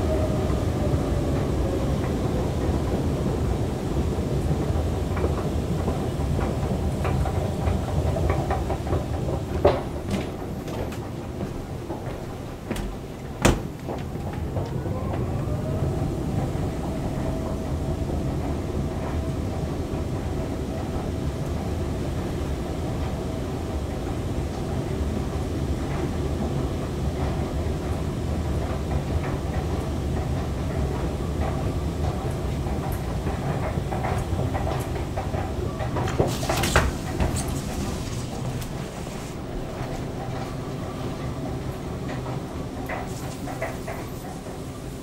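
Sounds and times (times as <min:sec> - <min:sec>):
escalator mechanical rumble: 0:00.0 - 0:45.0.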